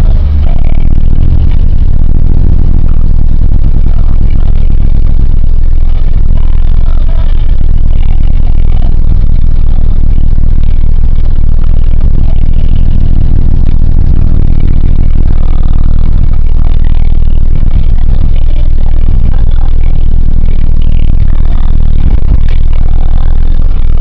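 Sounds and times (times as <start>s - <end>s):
pickup truck engine rumble: 0.0s - 24.0s.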